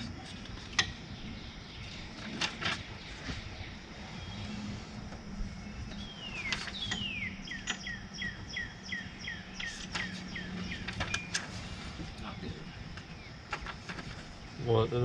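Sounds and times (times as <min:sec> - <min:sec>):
songbird singing: 0:00.0 - 0:15.0
steady low hum: 0:00.0 - 0:15.0.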